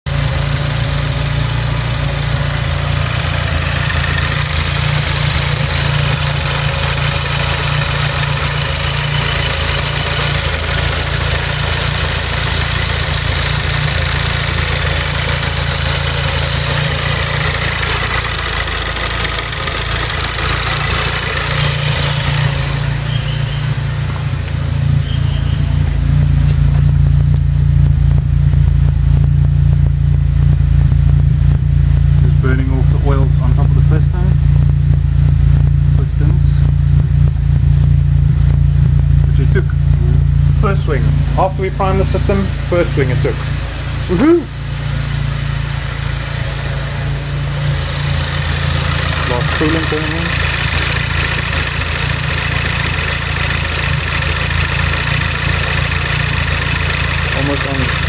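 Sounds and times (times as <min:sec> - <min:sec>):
turbocharged engine running: 0:00.0 - 0:58.0.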